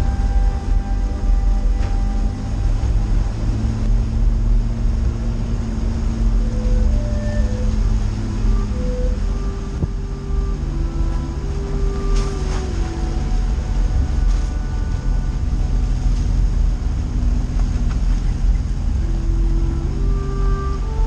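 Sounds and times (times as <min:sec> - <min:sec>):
off-road vehicle rumble: 0:00.0 - 0:21.0
soft background music: 0:00.0 - 0:21.0.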